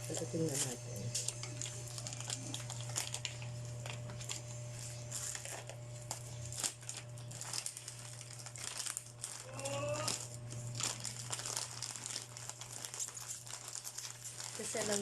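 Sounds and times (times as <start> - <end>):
packaging crinkling and rustling: 0.0 - 15.0
steady low hum: 0.0 - 15.0.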